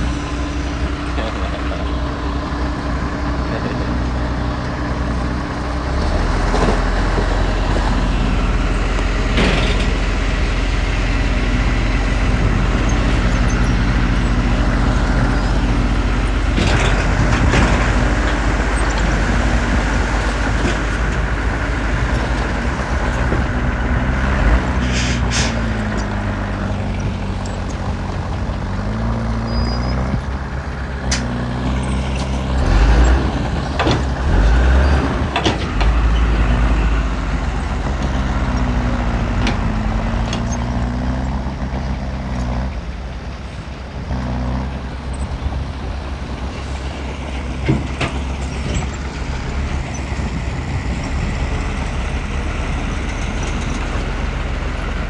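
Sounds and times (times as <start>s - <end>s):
heavy diesel engines revving: 0.0s - 55.0s.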